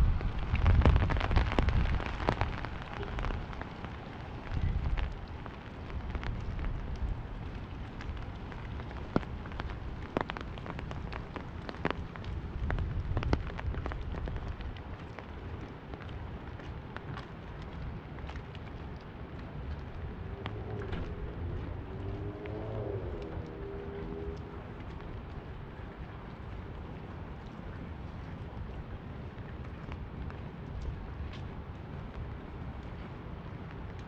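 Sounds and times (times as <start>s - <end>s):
rain pattering on an umbrella: 0.0s - 34.0s.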